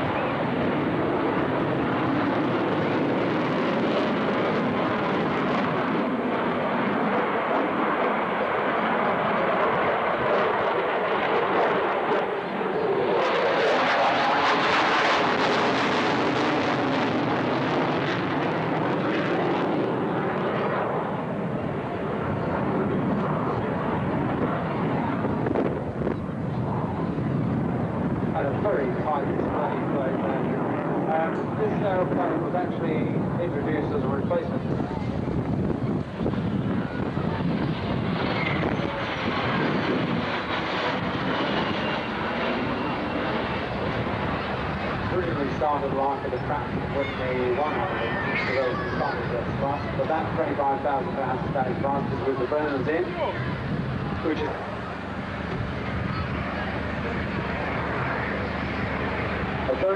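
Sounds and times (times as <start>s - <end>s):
fighter jet roar: 0.0s - 59.9s.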